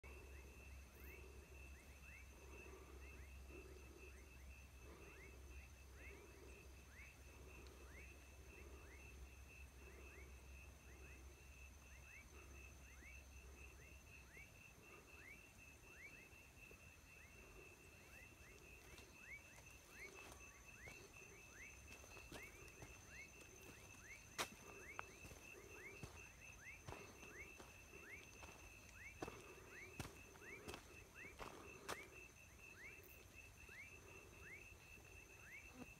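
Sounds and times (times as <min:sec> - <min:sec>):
insect fast-pulsing trill: 0:00.0 - 0:35.9.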